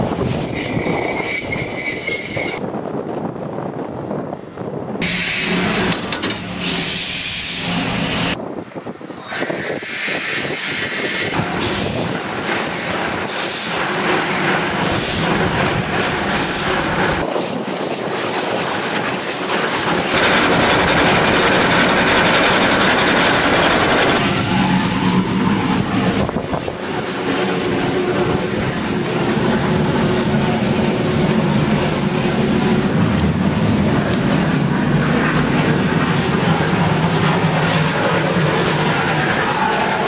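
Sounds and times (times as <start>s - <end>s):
wheels rattling on track: 4.7s - 7.2s, 9.3s - 40.0s
steam locomotive running: 5.0s - 8.4s, 9.3s - 40.0s.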